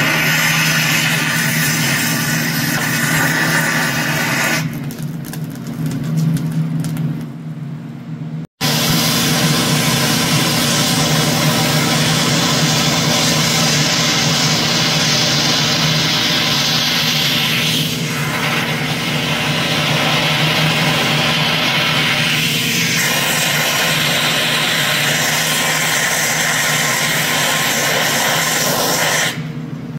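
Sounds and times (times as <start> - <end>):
cutting torch hissing: 0.0 - 4.7, 8.6 - 29.5.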